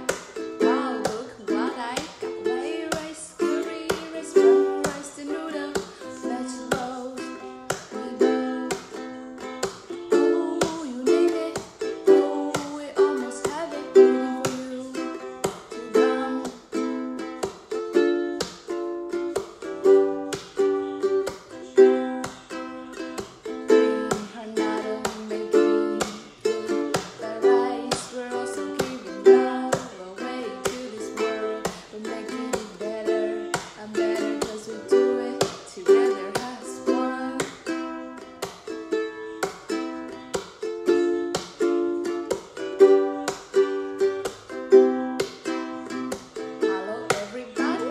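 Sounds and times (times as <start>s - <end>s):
woman singing: 0.0s - 17.3s, 19.4s - 38.5s, 42.2s - 44.1s, 46.6s - 47.9s
ukulele strumming: 0.0s - 47.9s.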